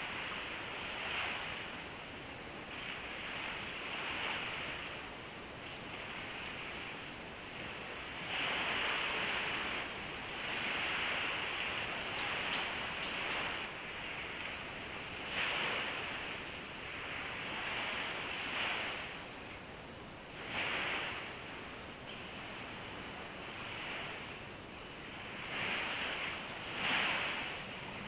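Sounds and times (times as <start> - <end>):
light wind: 0.0 - 28.0
small waves washing on sand: 0.0 - 28.0.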